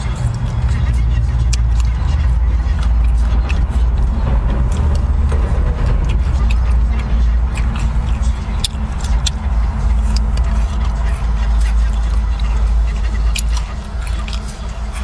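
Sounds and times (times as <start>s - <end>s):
car idling: 0.0s - 15.0s
chewing clicks: 0.0s - 15.0s.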